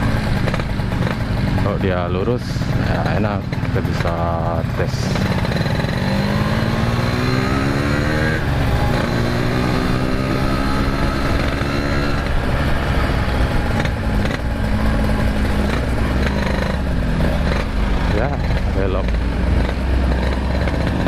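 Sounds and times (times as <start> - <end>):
two-stroke motorcycle engine: 0.0 - 21.0.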